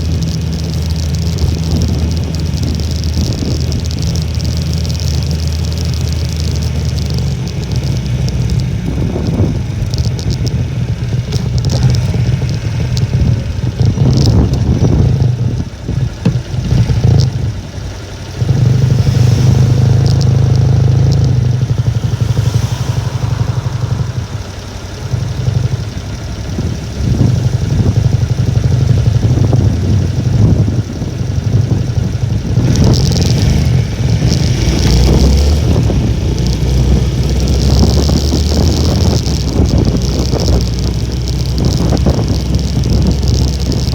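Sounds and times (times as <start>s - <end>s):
wind buffeting microphone: 0.0s - 17.6s, 18.4s - 43.9s
small motorcycle engine running: 0.0s - 43.9s.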